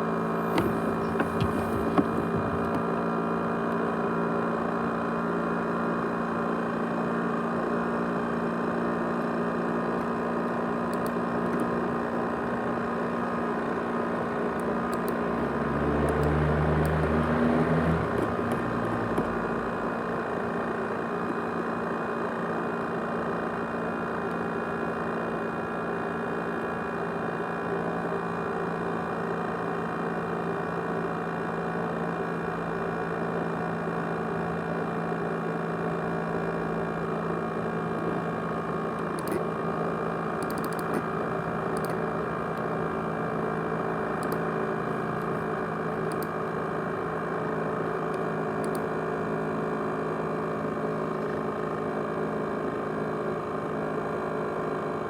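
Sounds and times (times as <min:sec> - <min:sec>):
laptop and hard drive whirring: 0:00.0 - 0:55.0.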